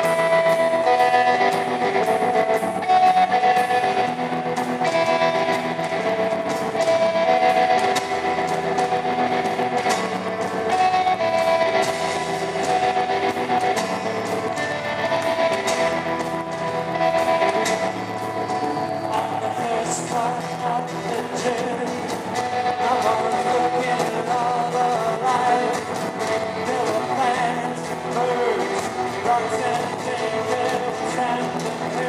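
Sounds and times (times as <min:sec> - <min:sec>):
electric guitar strumming: 0:00.0 - 0:32.0
live band music: 0:00.0 - 0:32.0.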